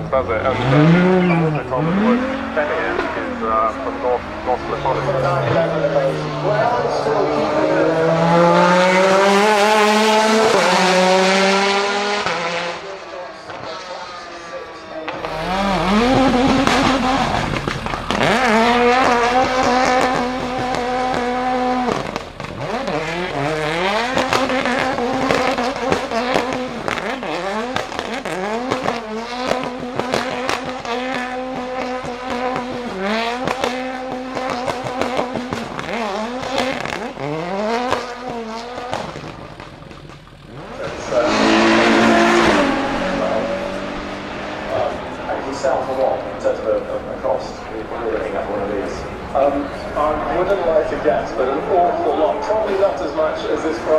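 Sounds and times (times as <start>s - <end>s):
car engine revving hard: 0.0s - 53.9s.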